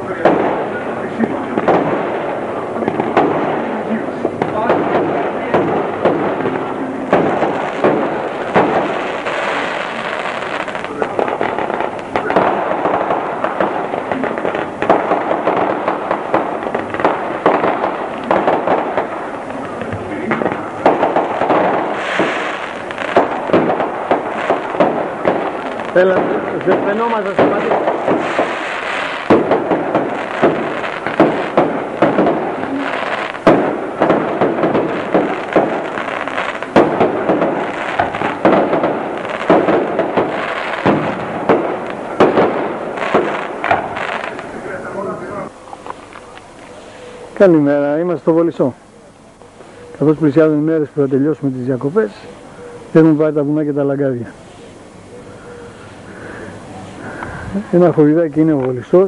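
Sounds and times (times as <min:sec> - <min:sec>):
fireworks cracks and pops: 0:00.0 - 0:48.8, 0:57.0 - 0:59.0
fireworks crackling hiss: 0:00.0 - 0:59.0.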